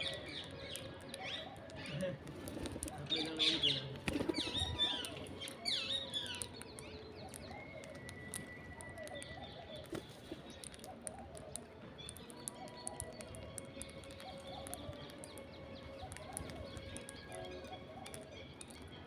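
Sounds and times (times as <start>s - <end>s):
clicks and pecks: 0.1s - 19.0s.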